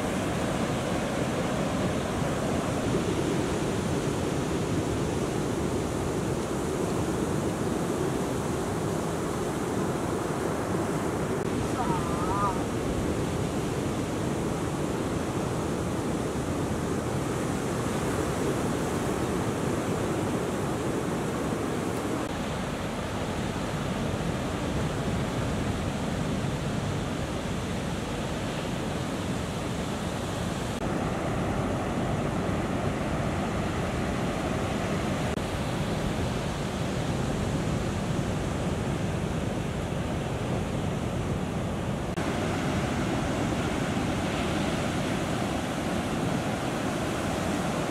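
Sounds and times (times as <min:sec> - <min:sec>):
ocean waves breaking: 0:00.0 - 0:47.9.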